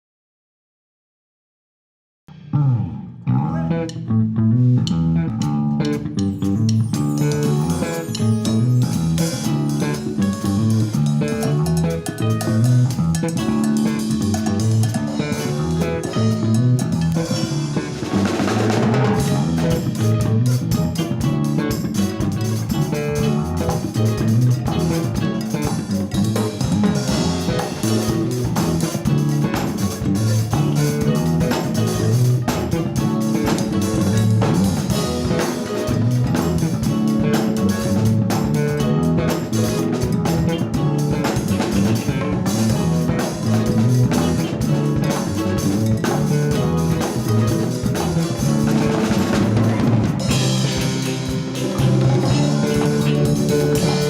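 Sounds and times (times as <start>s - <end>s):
bass: 2.3s - 54.0s
guitar: 2.3s - 54.0s
drum kit and percussion: 4.7s - 54.0s.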